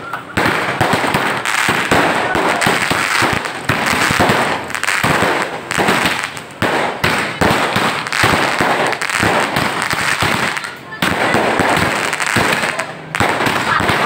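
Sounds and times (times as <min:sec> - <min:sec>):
fireworks crackle: 0:00.0 - 0:14.0.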